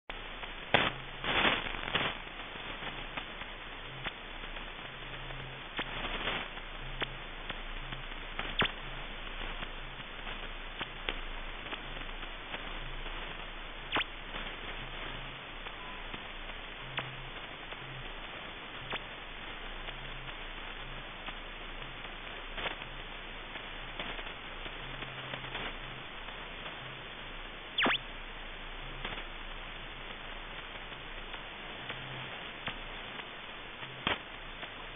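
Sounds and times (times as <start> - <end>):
faint low buzz: 0.1 - 34.9
radio band noise hiss: 0.1 - 34.9
sharp static crackles: 0.1 - 34.9.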